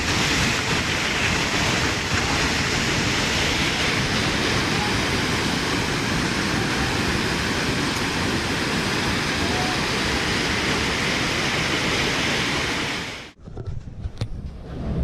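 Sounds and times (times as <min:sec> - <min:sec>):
river rushing in flood: 0:00.0 - 0:13.4.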